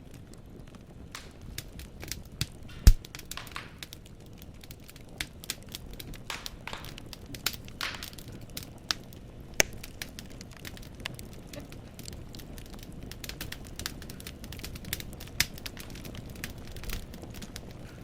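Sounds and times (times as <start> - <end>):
fire hissing: 0.0 - 18.0
firewood crackling and popping: 0.0 - 18.0.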